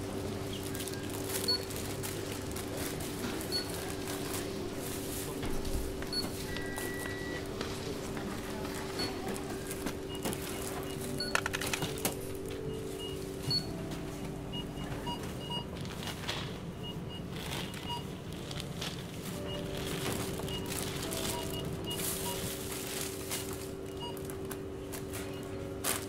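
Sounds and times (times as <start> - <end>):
groceries and plastic bags handled: 0.0 - 26.0.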